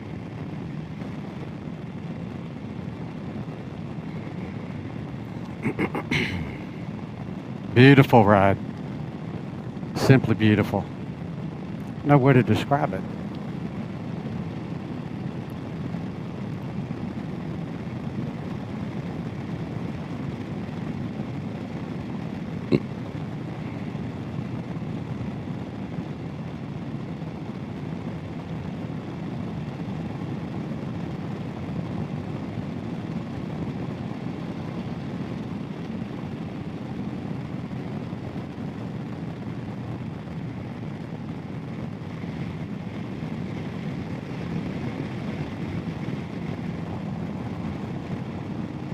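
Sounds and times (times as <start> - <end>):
wind noise: 0.0 - 7.8, 8.6 - 48.9
road noise: 0.0 - 48.9.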